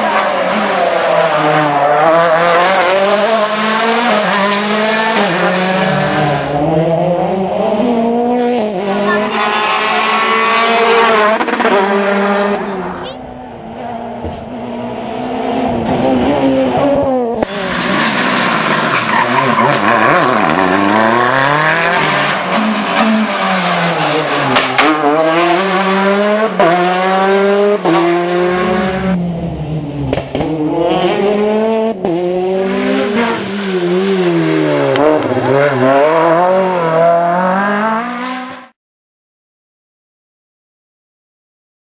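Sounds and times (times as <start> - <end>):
rally car engine revving: 0.0 - 38.8.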